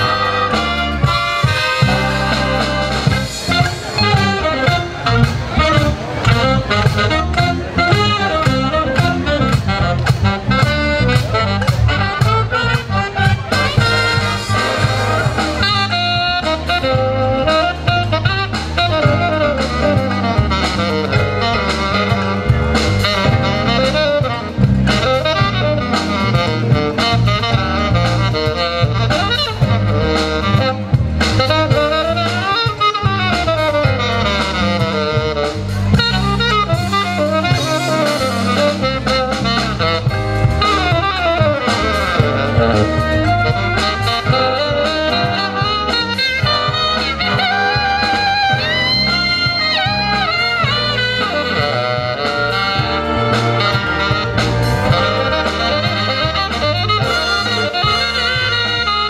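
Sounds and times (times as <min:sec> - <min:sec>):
wind band playing: 0:00.0 - 0:59.0.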